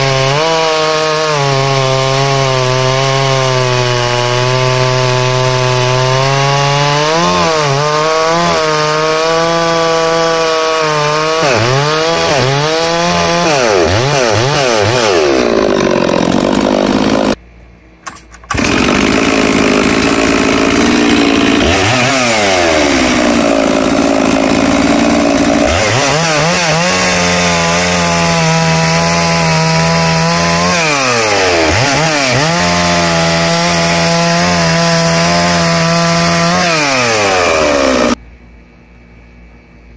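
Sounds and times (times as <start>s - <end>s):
chainsaw cutting logs: 0.0s - 17.4s, 18.1s - 38.2s.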